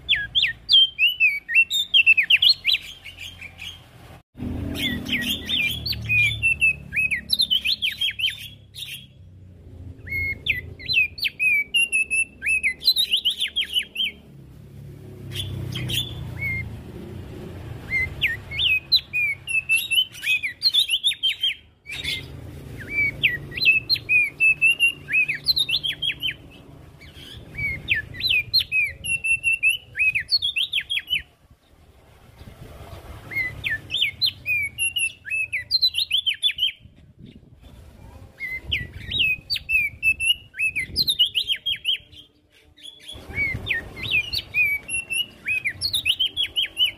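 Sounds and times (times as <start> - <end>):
bird singing high chattering notes: 0.0 - 3.8, 4.6 - 14.3, 15.3 - 16.8, 17.8 - 31.3, 33.3 - 37.5, 38.4 - 46.9.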